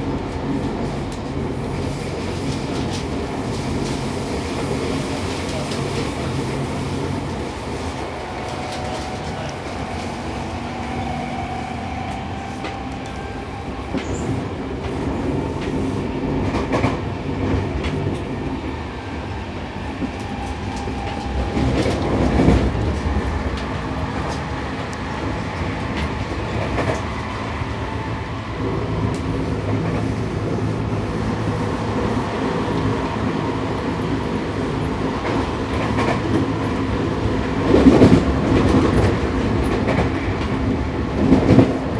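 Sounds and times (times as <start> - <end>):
train wheels and motors rumbling: 0.0 - 41.9
rail joint clicks: 0.2 - 41.9.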